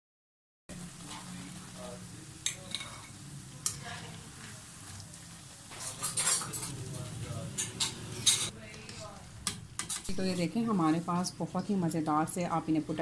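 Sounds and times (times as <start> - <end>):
oil sizzling: 0.7 - 13.0.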